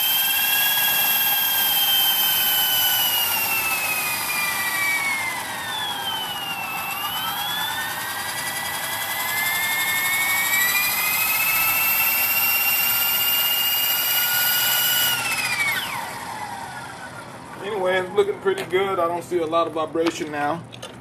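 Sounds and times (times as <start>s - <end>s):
rc helicopter rotor whine: 0.0s - 19.0s.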